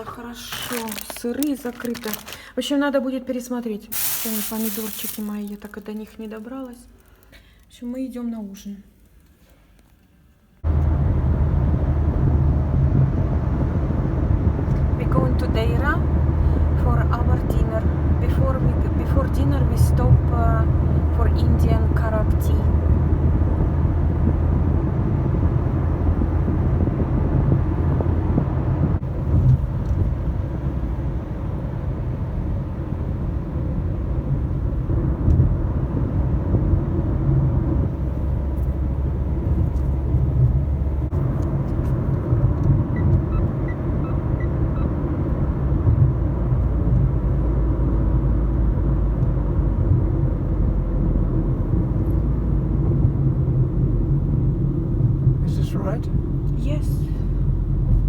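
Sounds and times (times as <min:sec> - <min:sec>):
car engine and road noise: 0:10.1 - 0:58.0.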